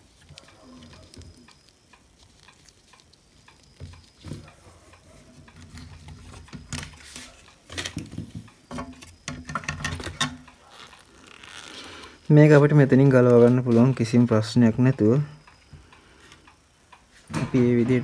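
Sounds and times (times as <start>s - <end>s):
rustling: 0.0s - 14.8s.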